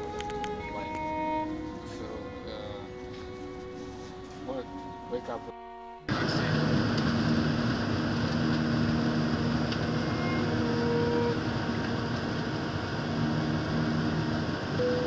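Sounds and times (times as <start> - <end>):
jet airliner cabin noise: 0.0 - 5.1, 6.1 - 15.0.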